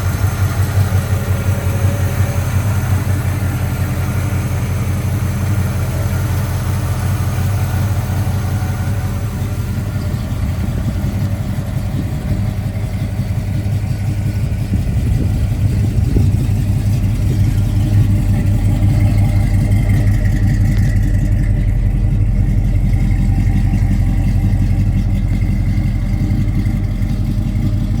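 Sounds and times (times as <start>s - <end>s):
pickup truck engine running: 0.0s - 28.0s.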